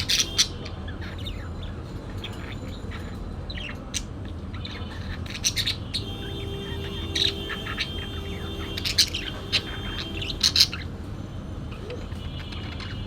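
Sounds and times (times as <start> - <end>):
parakeet chirping and squawking: 0.0 - 13.0.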